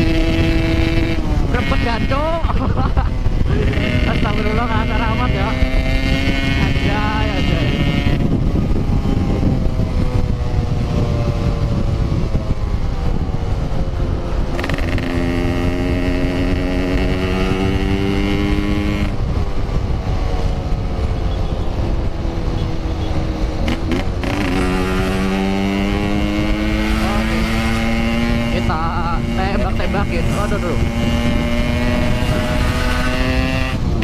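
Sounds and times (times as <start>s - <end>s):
two-stroke motorcycle engine: 0.0s - 34.0s
wind rumble on microphone: 0.0s - 34.0s.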